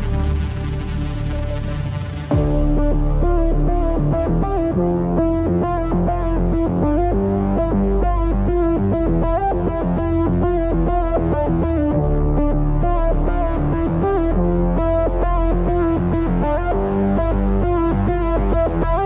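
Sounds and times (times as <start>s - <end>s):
electronic synthesizer music: 0.0s - 19.0s.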